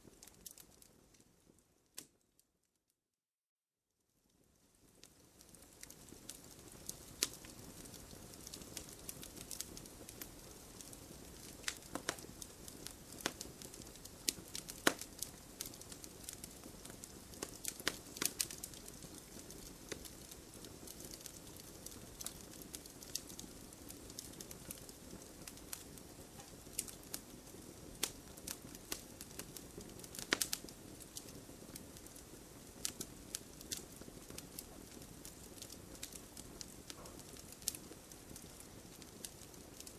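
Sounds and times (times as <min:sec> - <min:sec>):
wood fire crackling: 0:00.0 - 0:02.4, 0:04.3 - 0:39.9.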